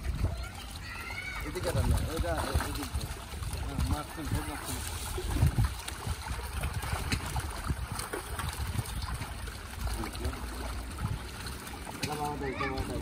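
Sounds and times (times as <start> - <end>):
pond water sloshing and splashing: 0.0 - 13.0.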